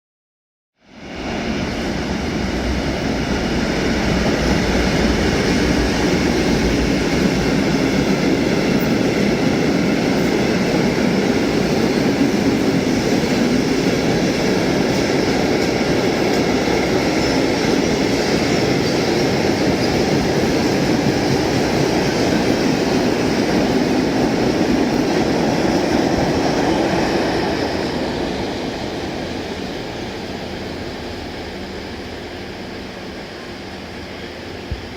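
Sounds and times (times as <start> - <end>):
freight train rolling past: 0.9 - 34.9.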